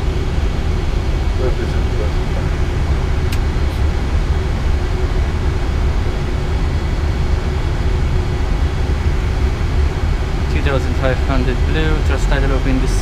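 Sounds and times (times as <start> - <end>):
airplane cockpit rush and rumble: 0.0 - 13.0
faint steady hum: 0.0 - 13.0.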